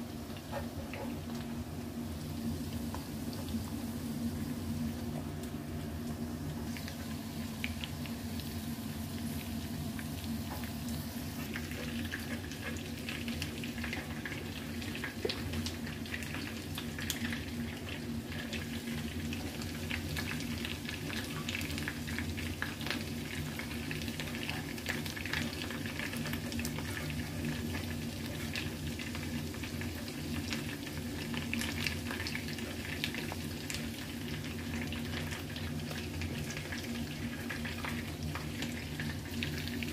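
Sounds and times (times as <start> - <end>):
low steady hum: 0.0 - 39.9
oil sizzling in a pan: 0.0 - 39.9.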